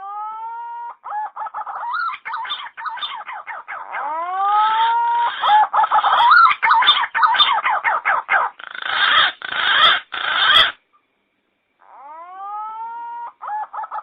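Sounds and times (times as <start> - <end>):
recorded pigeon calls: 0.0 - 10.8, 11.8 - 14.0.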